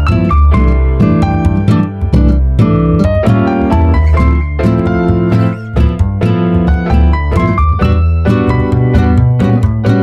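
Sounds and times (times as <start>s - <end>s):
plucked string notes: 0.0s - 10.0s.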